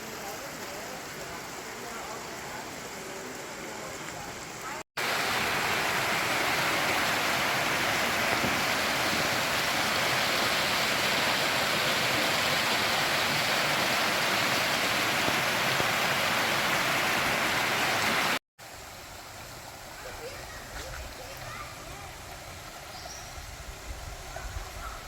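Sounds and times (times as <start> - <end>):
falling water rushing: 0.0 - 25.0.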